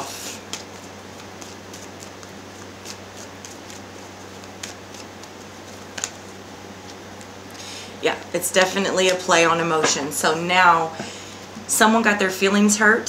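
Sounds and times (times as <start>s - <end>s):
room tone hiss and hum: 0.0s - 13.0s.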